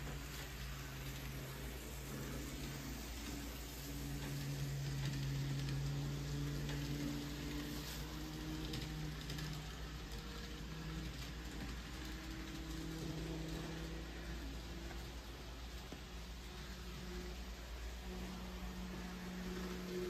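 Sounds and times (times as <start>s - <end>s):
wheels hissing on rails: 0.0s - 20.0s.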